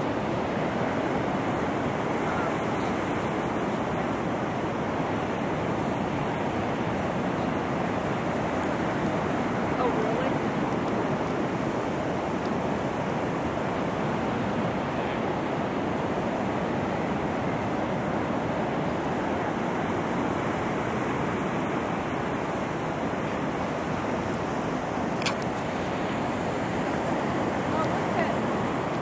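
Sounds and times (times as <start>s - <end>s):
ocean surf washing on beach: 0.0s - 29.0s.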